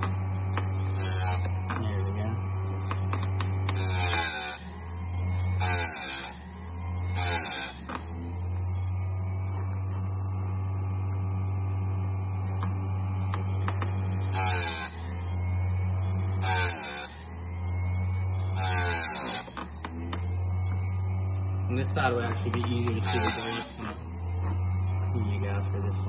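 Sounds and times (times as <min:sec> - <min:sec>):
grinding wheel on chain tooth: 0:00.0 - 0:10.5, 0:12.3 - 0:26.0
chain grinder motor hum: 0:00.0 - 0:26.0.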